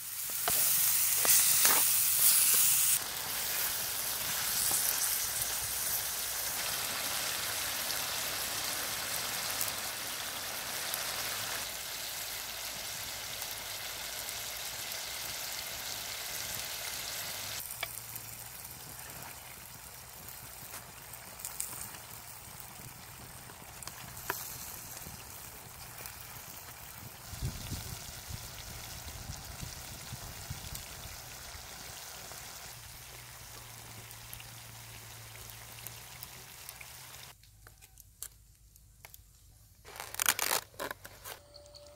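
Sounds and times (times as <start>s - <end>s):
food sizzling in a wok: 0.0s - 37.4s.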